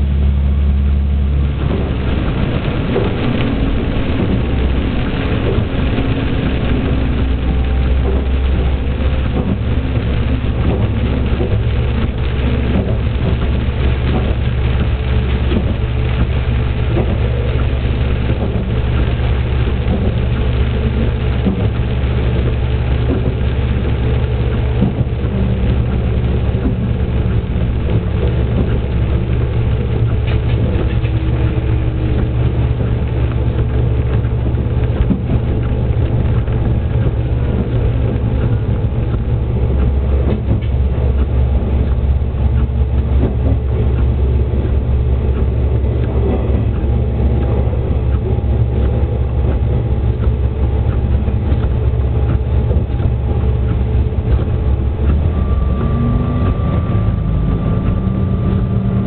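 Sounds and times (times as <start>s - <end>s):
diesel engine droning: 0.0s - 59.0s
wheels on rails: 0.0s - 59.0s.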